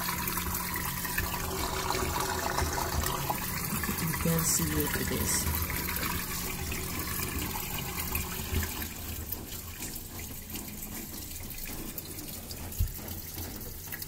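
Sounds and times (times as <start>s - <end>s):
drain pump water rushing: 0.0s - 14.0s.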